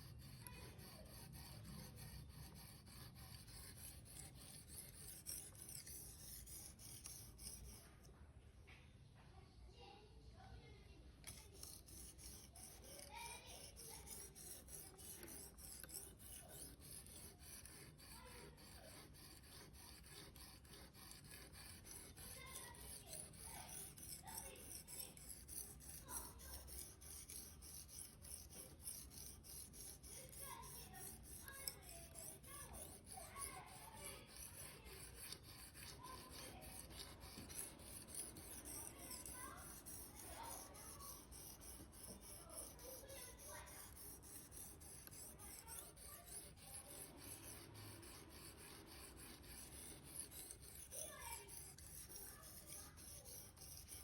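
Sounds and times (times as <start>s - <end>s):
knife scraping on sharpener: 0.0s - 8.1s, 11.2s - 54.0s.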